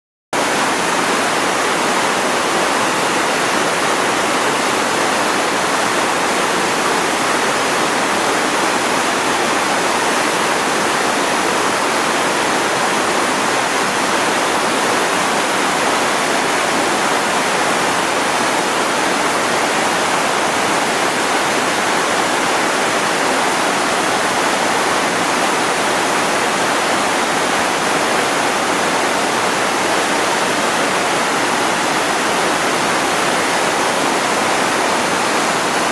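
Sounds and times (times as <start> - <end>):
waterfall rushing: 0.4 - 35.9.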